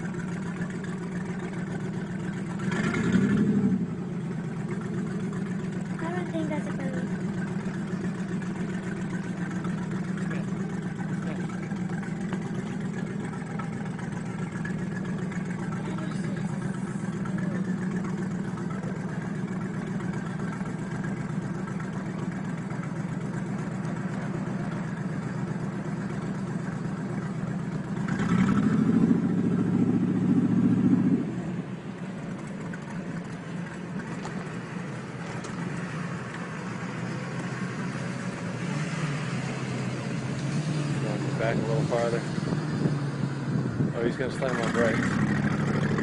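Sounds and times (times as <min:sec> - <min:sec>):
engine idling and revving: 0:00.0 - 0:46.0.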